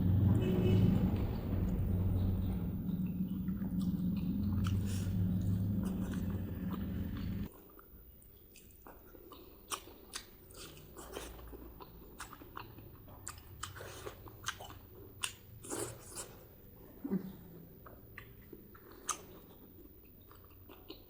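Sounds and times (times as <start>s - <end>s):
close chewing with mouth clicks: 2.4s - 21.0s.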